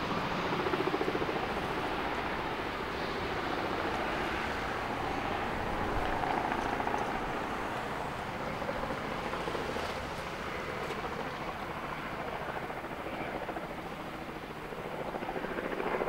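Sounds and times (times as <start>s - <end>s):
jet engines droning overhead: 0.0s - 16.0s.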